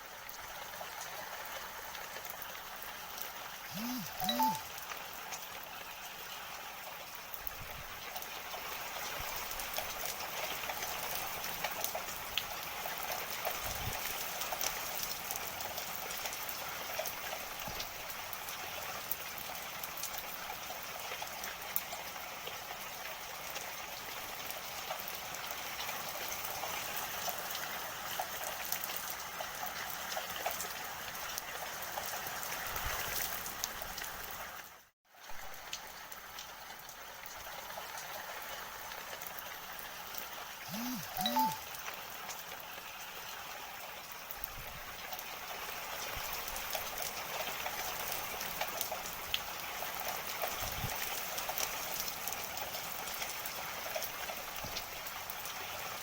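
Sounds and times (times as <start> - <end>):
steady rain falling: 0.0 - 3.7, 4.4 - 40.6, 41.7 - 56.0.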